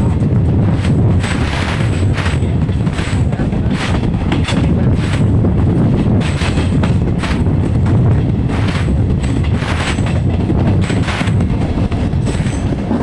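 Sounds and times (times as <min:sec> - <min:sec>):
train low rumble: 0:00.0 - 0:13.0
wheels clattering on track: 0:00.0 - 0:13.0.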